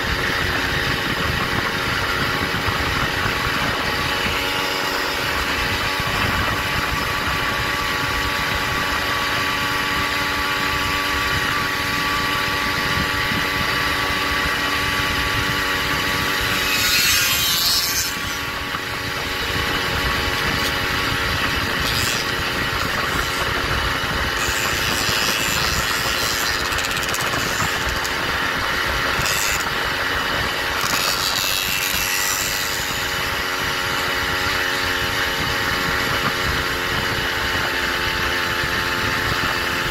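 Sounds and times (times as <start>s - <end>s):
small engine running: 0.0s - 39.9s
wind rushing over microphone: 0.0s - 39.9s.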